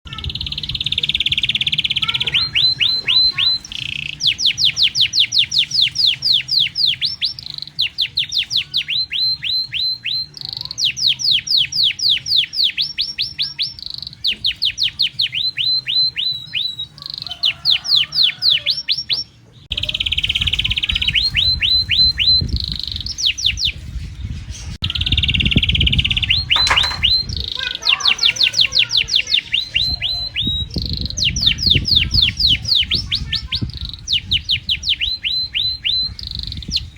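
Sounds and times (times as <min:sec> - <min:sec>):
canary singing trills: 0:00.1 - 0:36.9.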